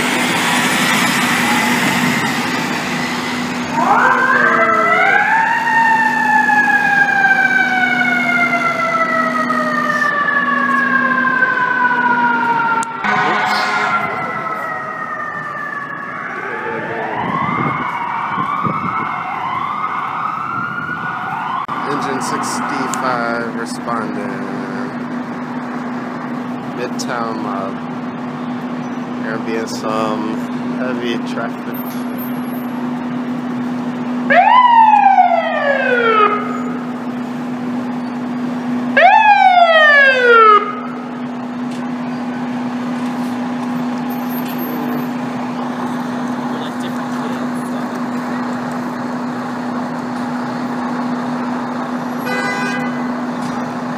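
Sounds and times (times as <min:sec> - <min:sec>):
fire engine siren: 0:00.0 - 0:53.9
traffic noise: 0:00.0 - 0:53.9.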